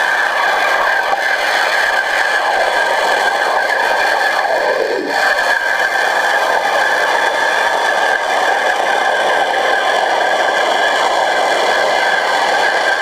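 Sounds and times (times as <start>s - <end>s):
pressure washer spraying underwater: 0.0s - 13.0s.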